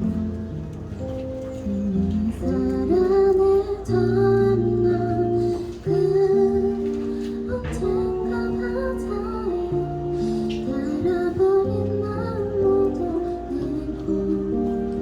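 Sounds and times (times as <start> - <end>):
guitar: 0.0 - 15.0
keyboard: 0.0 - 15.0
woman singing gentle song: 1.5 - 15.0.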